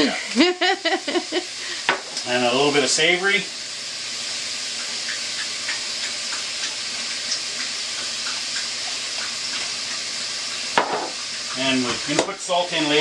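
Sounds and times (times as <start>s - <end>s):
meat and onions sizzling in a pot: 0.0s - 13.0s.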